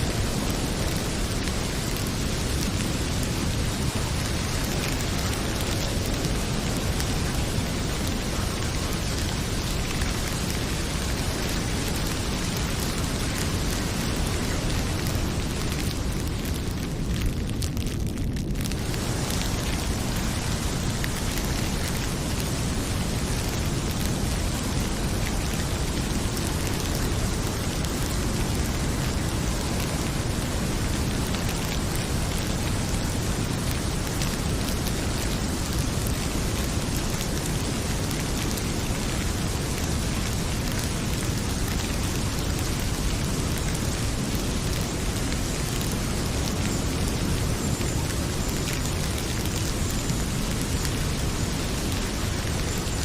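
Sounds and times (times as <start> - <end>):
fireplace crackles: 0.0 - 53.0
heavy rain pouring: 0.0 - 53.0.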